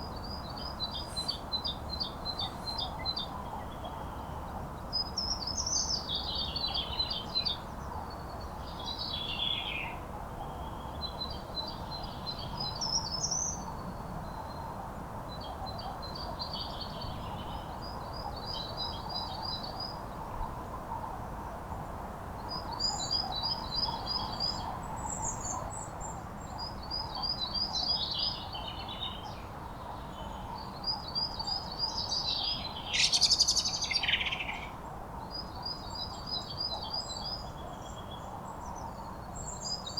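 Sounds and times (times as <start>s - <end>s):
songbirds singing: 0.0s - 14.6s, 22.4s - 39.9s.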